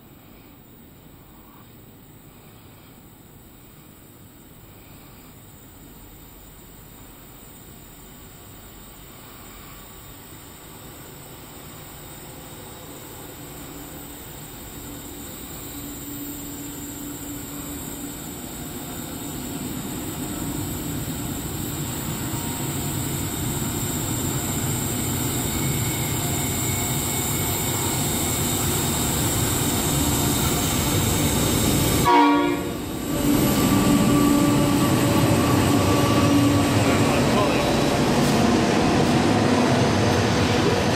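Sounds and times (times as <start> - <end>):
diesel freight train passing: 5.7 - 40.9.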